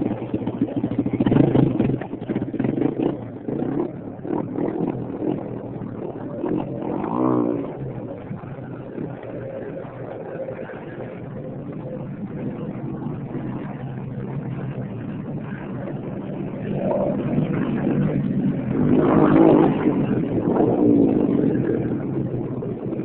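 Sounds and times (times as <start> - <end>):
dirt bike engine revving: 1.1 - 15.3, 16.0 - 22.4.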